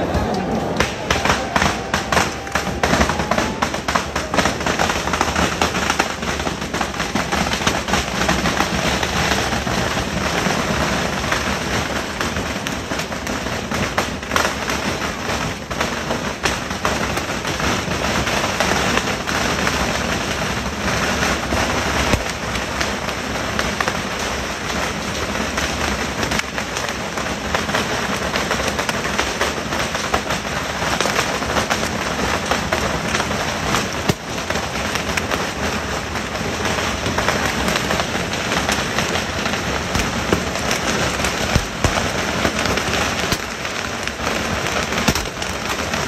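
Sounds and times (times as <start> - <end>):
firecrackers crackling and banging: 0.0 - 46.0.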